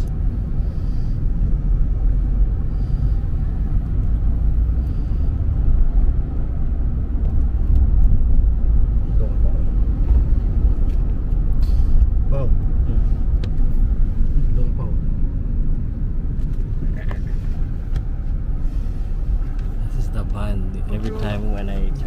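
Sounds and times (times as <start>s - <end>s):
road vehicle rumble: 0.0s - 22.0s.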